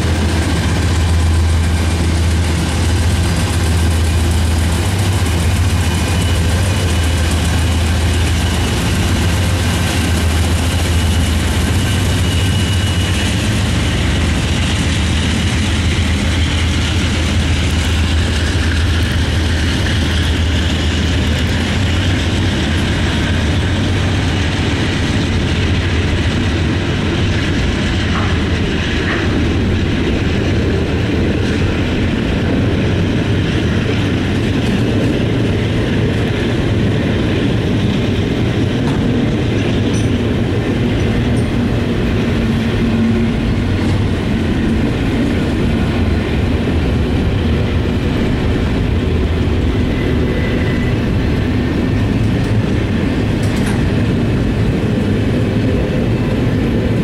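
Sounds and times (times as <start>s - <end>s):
diesel locomotive engines droning: 0.0s - 57.0s
freight cars rolling on rails: 0.0s - 57.0s.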